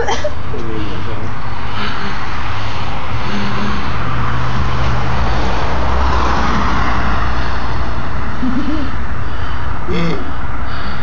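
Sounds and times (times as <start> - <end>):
low engine hum of traffic: 0.0 - 11.0
vehicle passing: 0.0 - 11.0.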